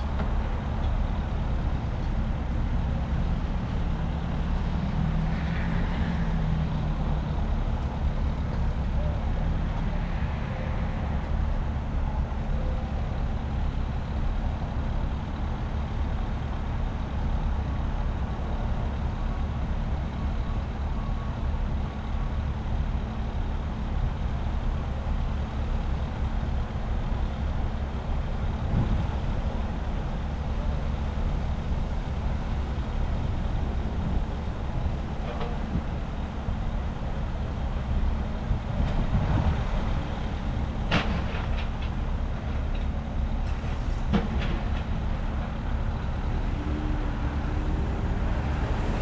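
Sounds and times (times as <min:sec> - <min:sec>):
vehicle engine and road noise: 0:00.0 - 0:49.0.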